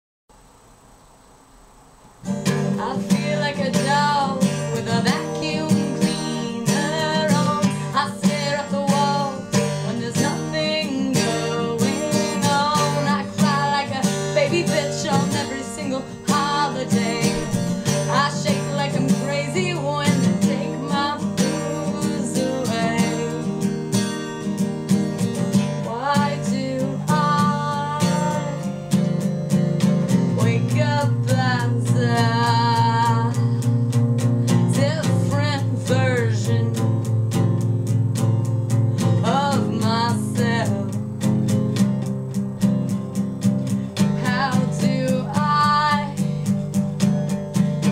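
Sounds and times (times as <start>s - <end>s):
acoustic guitar strumming chords: 2.2s - 47.9s
woman singing: 2.4s - 29.2s, 29.8s - 33.9s, 34.5s - 37.2s, 39.0s - 41.5s, 43.6s - 46.8s.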